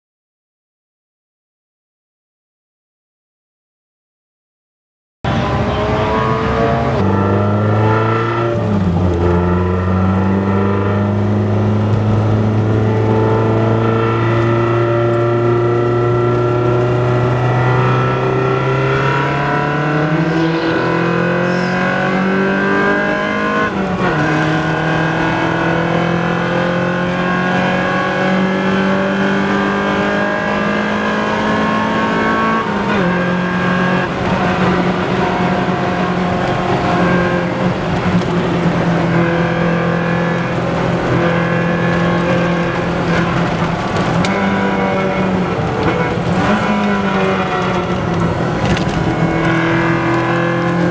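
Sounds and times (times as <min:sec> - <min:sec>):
car engine accelerating hard: 0:05.3 - 0:50.9.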